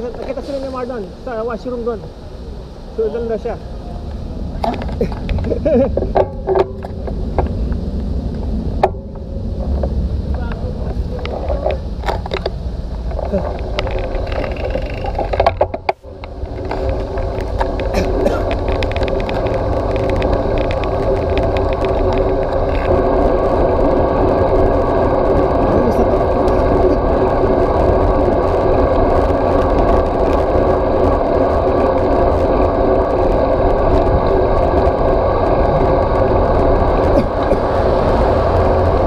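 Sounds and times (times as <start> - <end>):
bike tyres rolling on pavement: 0.0 - 39.0
wind rushing over microphone: 0.0 - 39.0.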